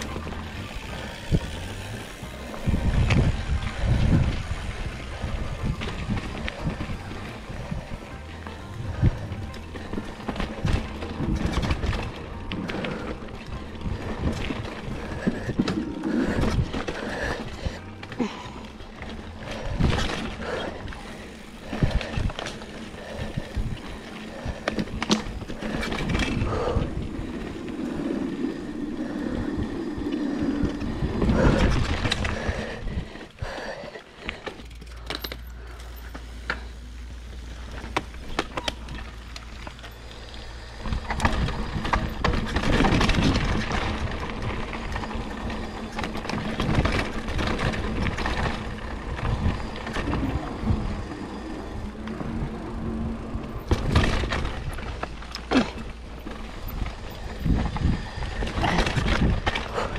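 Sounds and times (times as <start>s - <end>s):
bike rattling over bumps: 0.0s - 59.9s
bike tyres rolling over dirt: 0.0s - 59.9s.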